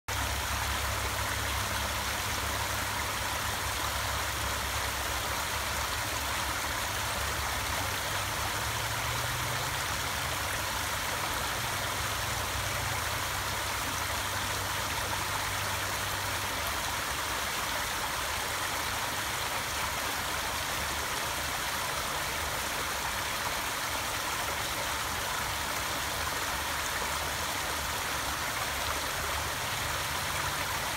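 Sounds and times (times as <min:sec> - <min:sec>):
creek water flowing over rocks: 0:00.1 - 0:30.9.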